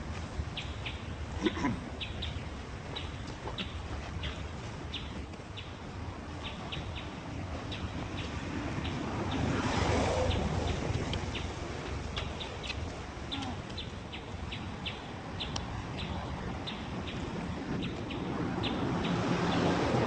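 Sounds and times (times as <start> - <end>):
low rumble of outdoor noise: 0.0 - 20.0.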